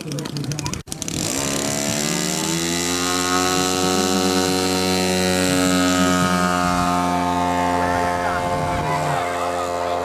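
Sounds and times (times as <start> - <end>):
model plane engine running: 0.0 - 10.0.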